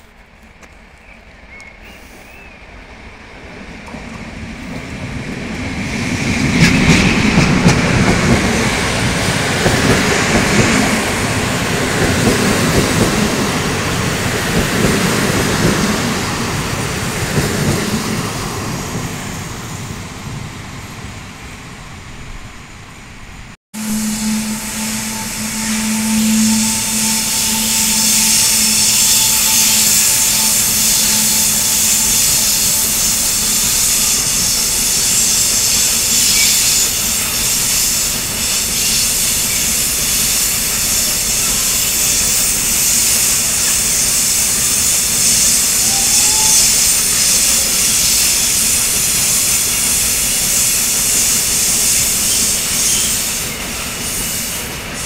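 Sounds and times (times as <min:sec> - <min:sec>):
train passing rushing noise: 0:00.0 - 0:55.0.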